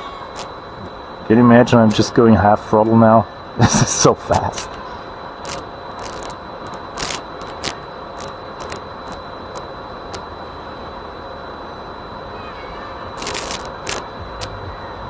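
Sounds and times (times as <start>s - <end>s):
ambient noise: 0.0s - 15.0s
faint high whine: 0.0s - 15.0s.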